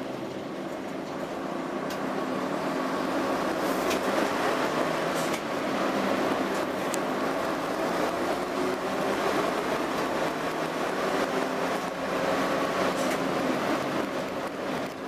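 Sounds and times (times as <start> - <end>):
bus diesel engine droning: 0.0 - 15.0
road noise: 0.0 - 15.0.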